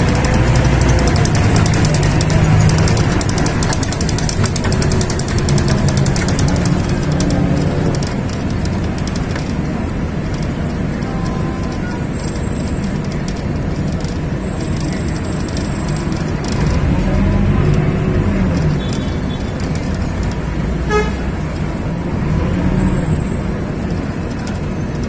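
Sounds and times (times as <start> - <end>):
engine and tyres rumble: 0.0 - 25.0.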